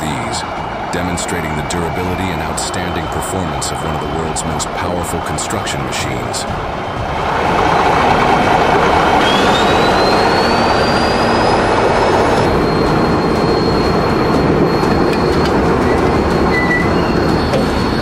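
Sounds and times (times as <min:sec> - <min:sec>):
bulldozers running: 0:00.0 - 0:18.0
high mechanical whine: 0:00.0 - 0:18.0.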